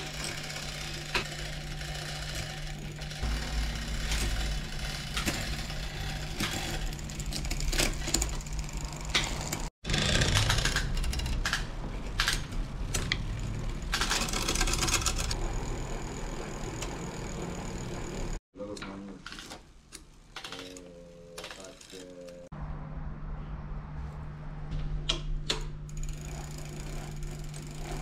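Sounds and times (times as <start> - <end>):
bicycle chain clicking and rattling: 0.0 - 18.4, 20.3 - 22.5, 25.9 - 28.0.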